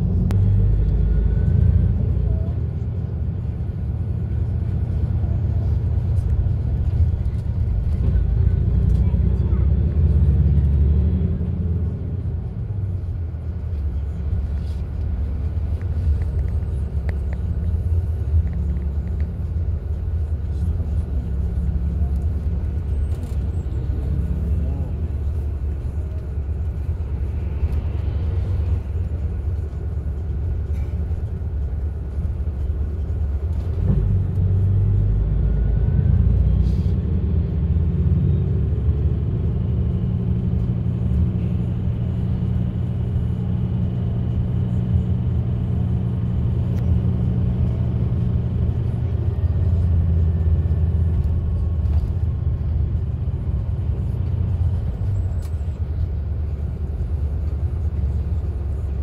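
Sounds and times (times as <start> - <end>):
bus engine and tyres rumbling: 0.0 - 59.0.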